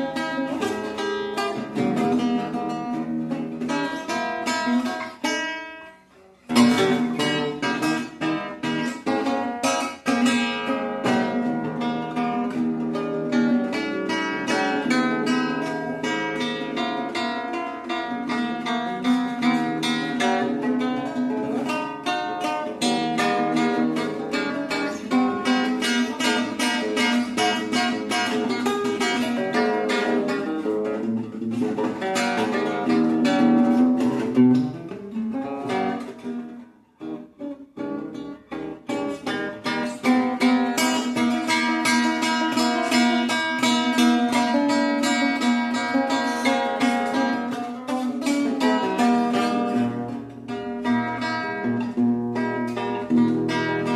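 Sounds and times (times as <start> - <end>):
acoustic guitar music: 0.0 - 53.9.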